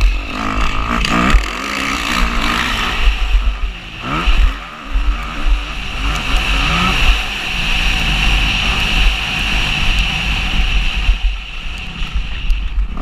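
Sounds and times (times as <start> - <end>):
motocross bike engine revving: 0.0 - 13.0
wind buffeting microphone: 0.0 - 13.0.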